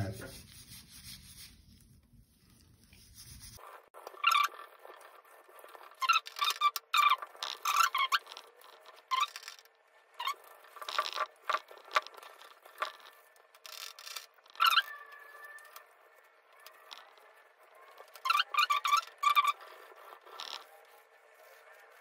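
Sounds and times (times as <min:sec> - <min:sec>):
wire scrubber scratching metal: 0:03.2 - 0:22.0.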